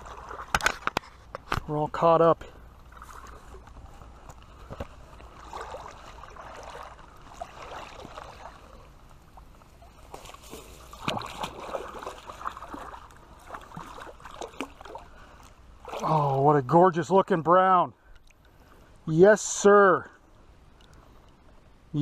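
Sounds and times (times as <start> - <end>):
creek water splashing: 0.0 - 19.1.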